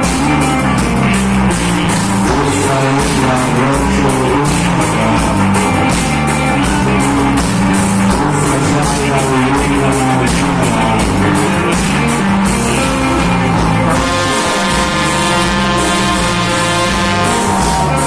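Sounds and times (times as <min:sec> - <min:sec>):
reggae band playing: 0:00.0 - 0:18.0.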